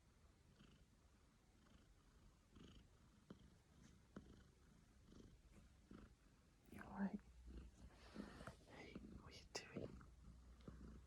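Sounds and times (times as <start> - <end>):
cat purring: 0.3 - 11.0.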